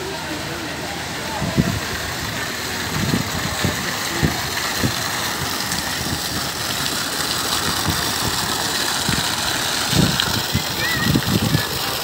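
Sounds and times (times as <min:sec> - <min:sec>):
water splashing from fountain jets: 0:00.0 - 0:12.0.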